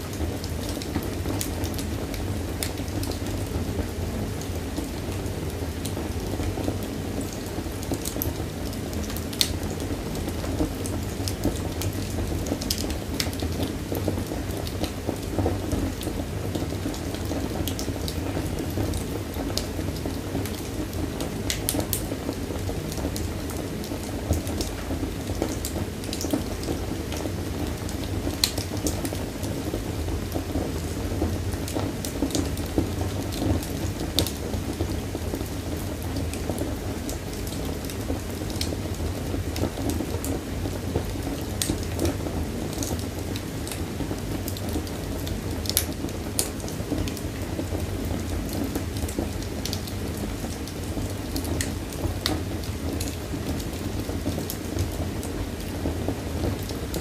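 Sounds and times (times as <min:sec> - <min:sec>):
fire roaring: 0:00.0 - 0:57.0.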